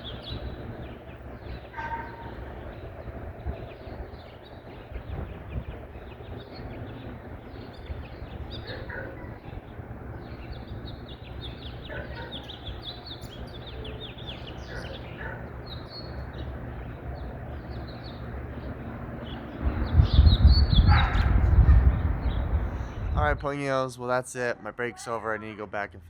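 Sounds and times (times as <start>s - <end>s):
steady low rumble: 0.0s - 23.8s
songbirds chirping: 0.0s - 25.5s.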